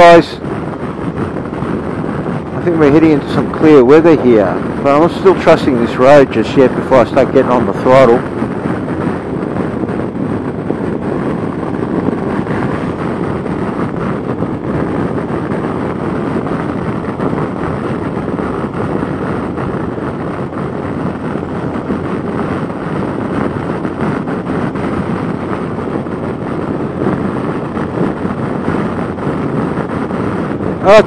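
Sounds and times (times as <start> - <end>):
wind rush over microphone: 0.0 - 31.0.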